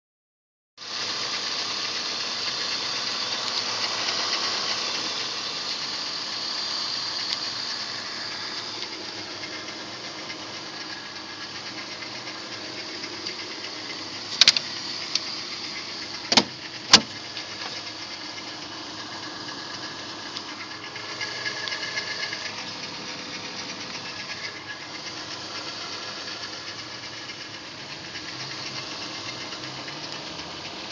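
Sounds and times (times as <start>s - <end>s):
car engine running: 0.8s - 30.9s
engine rattle: 0.8s - 30.9s.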